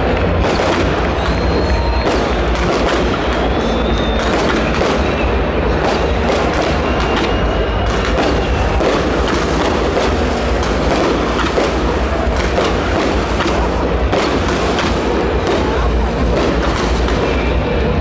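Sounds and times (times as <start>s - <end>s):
fireworks bangs: 0.0s - 18.0s
fireworks rumble: 0.0s - 18.0s.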